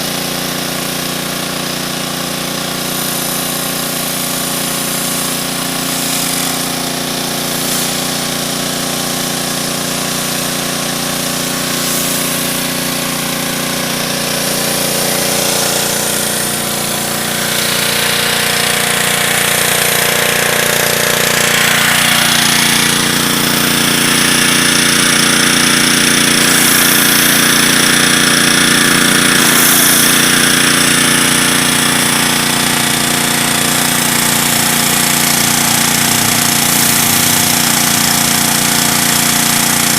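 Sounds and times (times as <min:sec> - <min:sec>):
pressure washer machine drone: 0:00.0 - 0:39.9
water spray hissing: 0:00.0 - 0:39.9.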